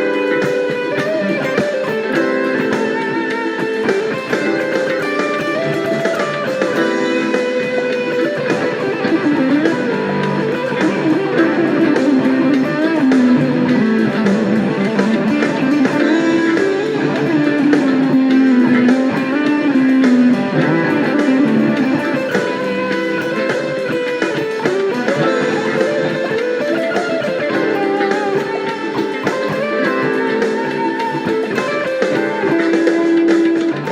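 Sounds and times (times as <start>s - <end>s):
fuzz-distorted electric guitar lead: 0.0s - 33.9s.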